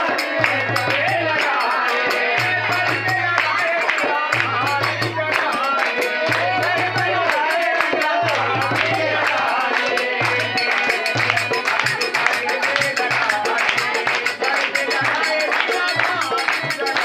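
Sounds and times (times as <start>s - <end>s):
harmonium: 0.0s - 17.0s
men singing: 0.0s - 17.0s
rhythmic hand clapping: 0.0s - 17.0s.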